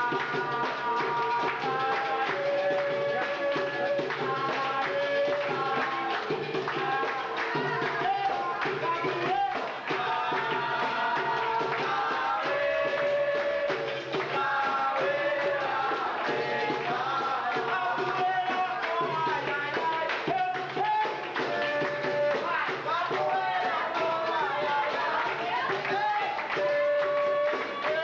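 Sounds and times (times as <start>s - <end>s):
percussion: 0.0s - 28.0s
rhythmic hand-clapping: 0.0s - 28.0s
voices singing together: 0.0s - 28.0s.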